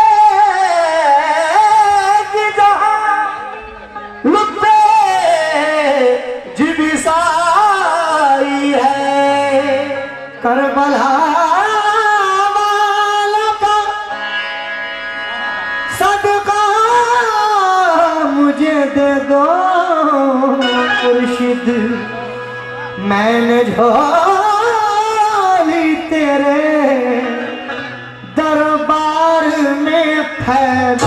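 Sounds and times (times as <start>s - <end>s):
man singing melismatic lines: 0.0s - 14.6s, 15.4s - 31.0s
harmonium: 0.0s - 31.0s.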